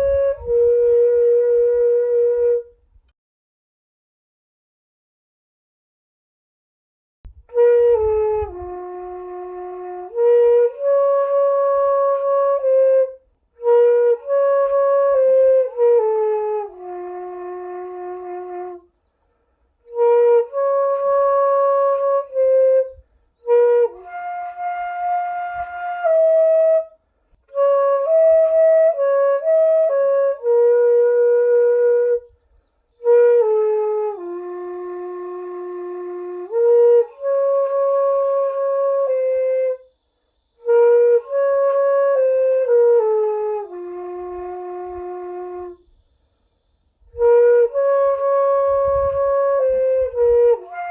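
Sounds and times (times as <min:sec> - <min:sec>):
bamboo flute slow melody: 0:00.0 - 0:03.1, 0:07.3 - 0:50.9.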